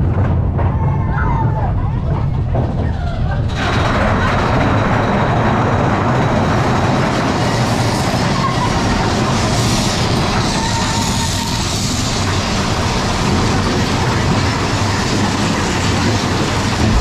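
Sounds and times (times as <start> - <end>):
roller coaster wheels on rails: 0.0 - 17.0.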